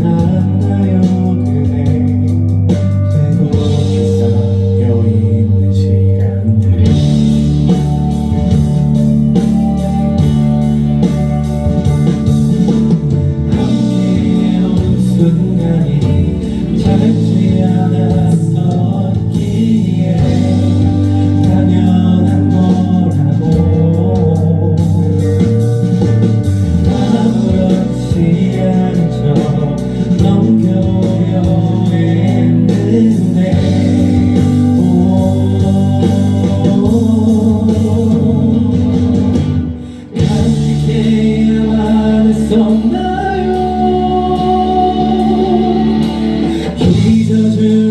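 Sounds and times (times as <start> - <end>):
guitars and bass: 0.0 - 47.9
person singing: 0.0 - 47.9.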